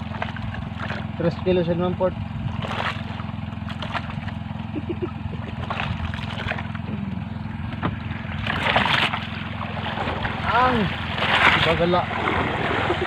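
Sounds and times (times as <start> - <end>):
boat engine droning: 0.0 - 13.0
water splashing against hull: 0.0 - 13.0.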